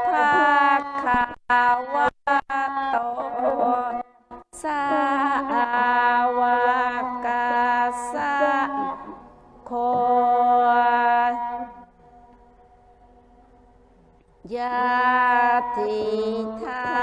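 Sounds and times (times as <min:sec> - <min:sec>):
chant in long held notes: 0:00.0 - 0:13.6, 0:14.4 - 0:17.0.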